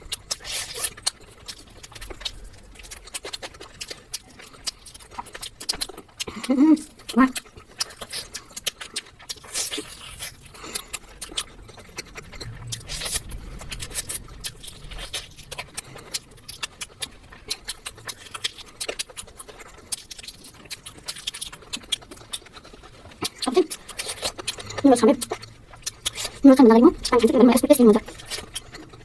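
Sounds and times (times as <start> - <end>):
close chewing and mouth noises: 0.0 - 29.0.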